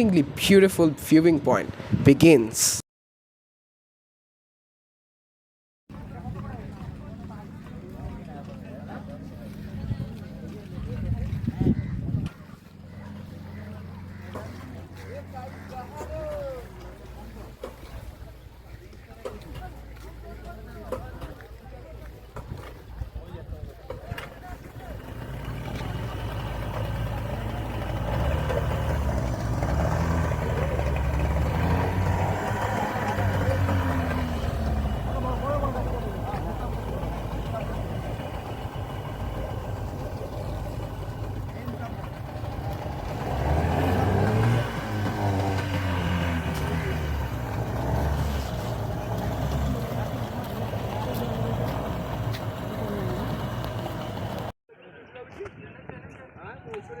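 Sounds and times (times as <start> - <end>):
motorboat engine droning: 5.9 - 22.9, 24.1 - 54.5
faint voices: 5.9 - 57.0.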